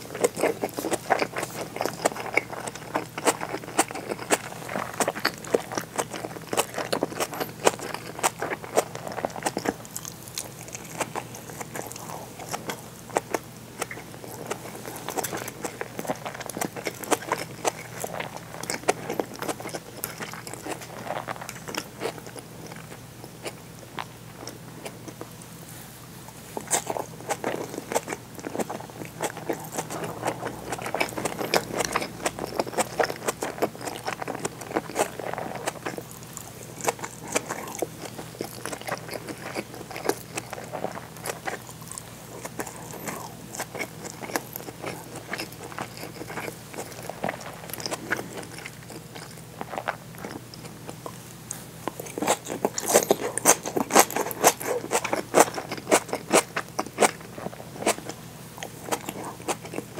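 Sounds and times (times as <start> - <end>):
close-miked chewing: 0.0 - 59.9.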